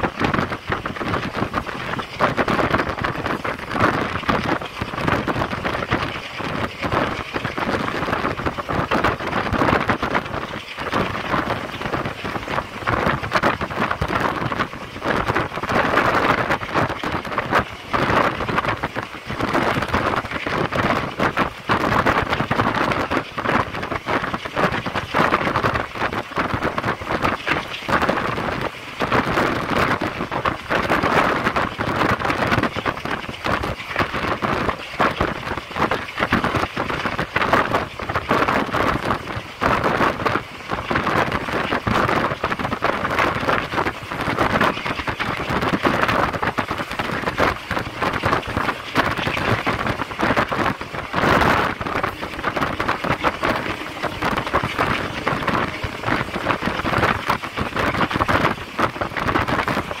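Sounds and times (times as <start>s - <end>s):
train rattling and clatter: 0.0s - 60.0s
train rushing noise: 0.0s - 60.0s.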